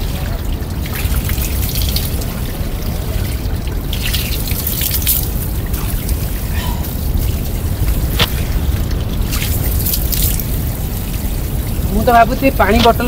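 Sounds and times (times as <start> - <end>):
water running from pipe splashing: 0.0 - 13.0.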